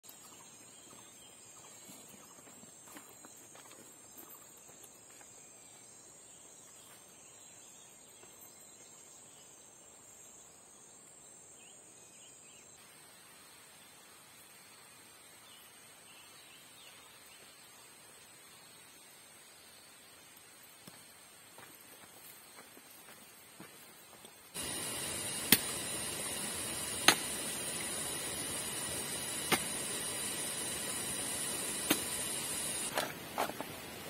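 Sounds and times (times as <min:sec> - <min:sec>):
forest insects droning: 0:00.1 - 0:34.0.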